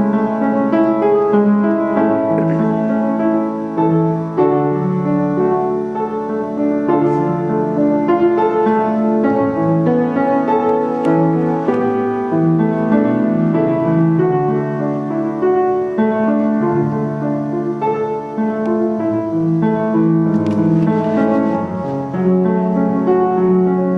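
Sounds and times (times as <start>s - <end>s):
piano music: 0.0s - 23.9s.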